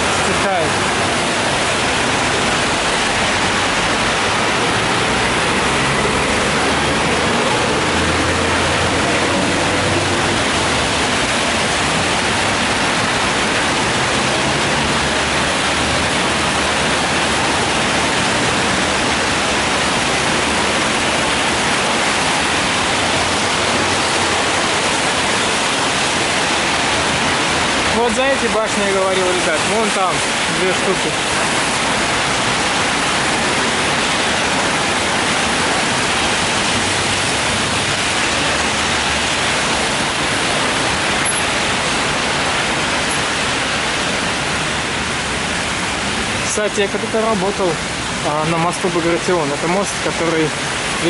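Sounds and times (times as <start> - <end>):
rain falling: 0.0 - 51.0
traffic on wet road: 0.0 - 51.0.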